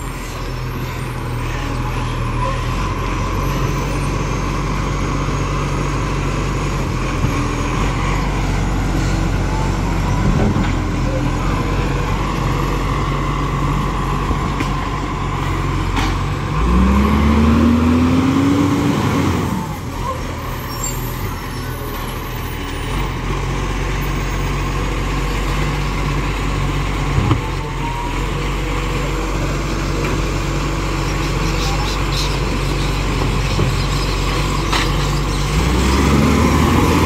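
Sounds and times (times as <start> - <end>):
diesel engine idling and revving: 0.0 - 37.0.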